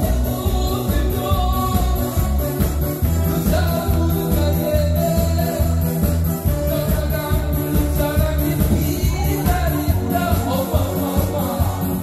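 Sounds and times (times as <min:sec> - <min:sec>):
backing track with bass beat: 0:00.0 - 0:12.0
man singing into microphone: 0:00.0 - 0:12.0.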